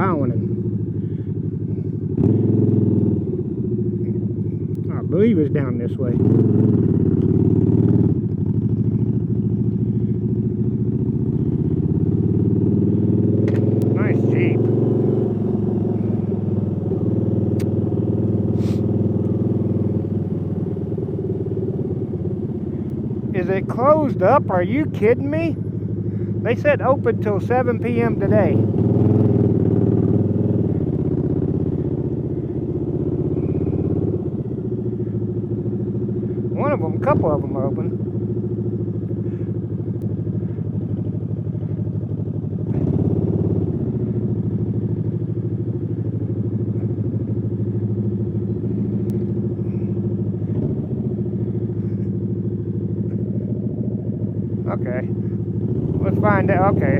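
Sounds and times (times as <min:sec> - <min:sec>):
motorcycle engine at low revs: 0:00.0 - 0:56.9.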